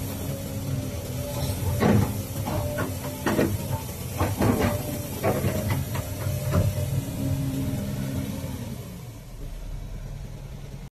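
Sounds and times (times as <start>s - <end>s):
hydraulic hissing bursts: 0.0s - 9.0s
excavator diesel engine running: 0.0s - 10.9s.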